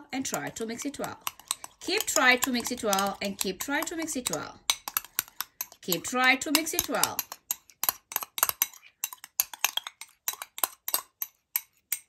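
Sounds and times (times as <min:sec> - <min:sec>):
teaspoon clinking in glass bowl: 0:00.2 - 0:12.0.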